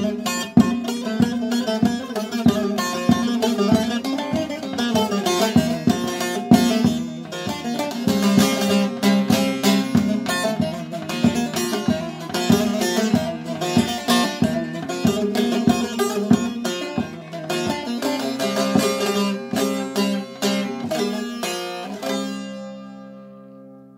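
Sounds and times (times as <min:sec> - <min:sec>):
long-necked lute folk tune: 0:00.0 - 0:23.9.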